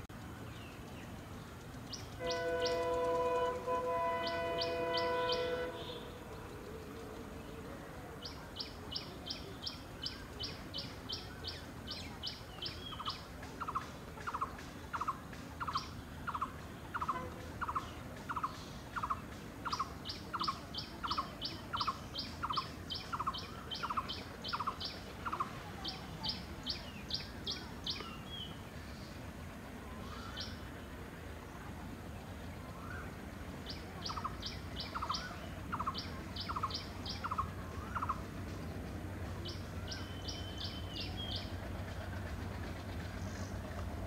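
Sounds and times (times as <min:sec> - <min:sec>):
faint low rumble: 0:05.4 - 0:44.0.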